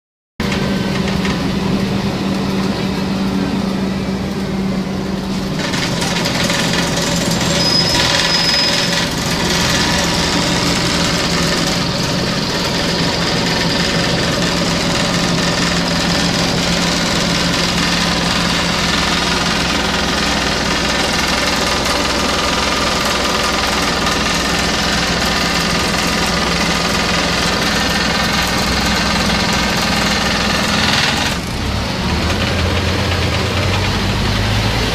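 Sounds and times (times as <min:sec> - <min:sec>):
bus engine running: 0:00.4 - 0:34.9
road noise: 0:00.4 - 0:34.9.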